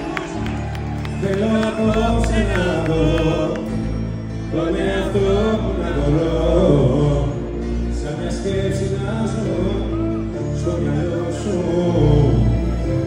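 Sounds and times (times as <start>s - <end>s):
heavy bass: 0.0s - 13.0s
live band music: 0.0s - 13.0s
person singing: 1.0s - 13.0s.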